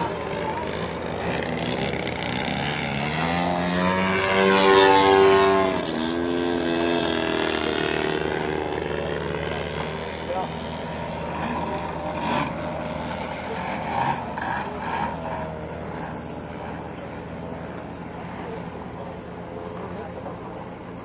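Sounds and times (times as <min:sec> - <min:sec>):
model airplane engine buzzing: 0:00.0 - 0:21.0.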